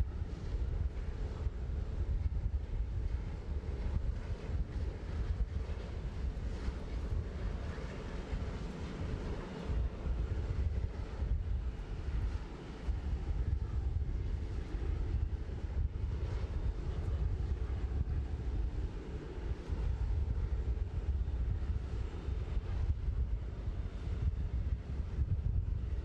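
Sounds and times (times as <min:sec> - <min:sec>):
aircraft rumble: 0:00.0 - 0:26.0
wind buffeting microphone: 0:00.0 - 0:26.0.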